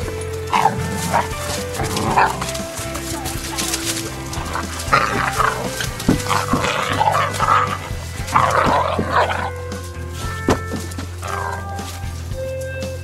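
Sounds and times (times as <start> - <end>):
dogs growling play-fighting: 0.0 - 12.5
background music: 0.0 - 13.0.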